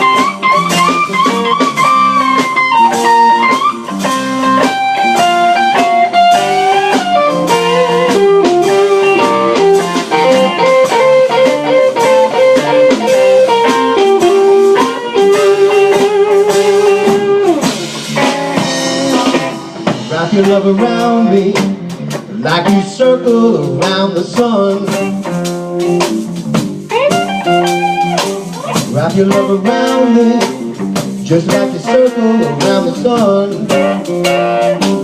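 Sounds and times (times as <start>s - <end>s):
electric guitar solo: 0.0s - 20.2s, 24.9s - 26.2s, 26.9s - 35.0s
blues band playing: 0.0s - 35.0s.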